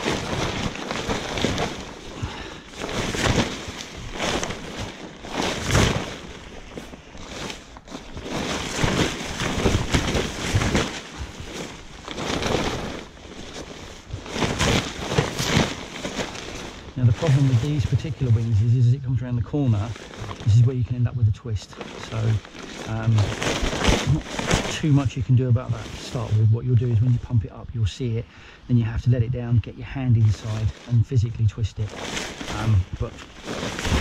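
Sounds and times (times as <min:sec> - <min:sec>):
fabric rustling and flapping: 0:00.0 - 0:28.2, 0:28.9 - 0:34.0.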